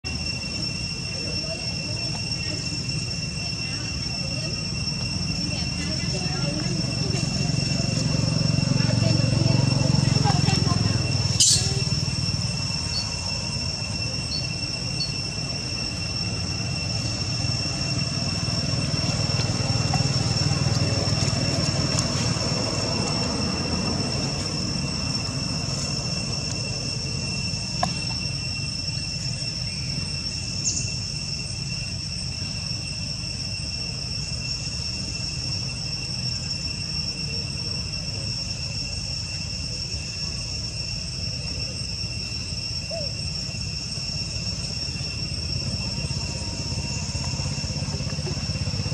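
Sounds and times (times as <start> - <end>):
insects droning: 0.0 - 48.9.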